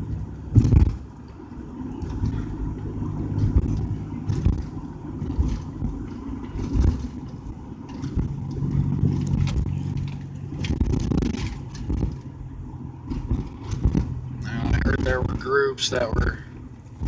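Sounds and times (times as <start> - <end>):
car engine hum: 0.0 - 17.0
road rumble: 0.0 - 17.0.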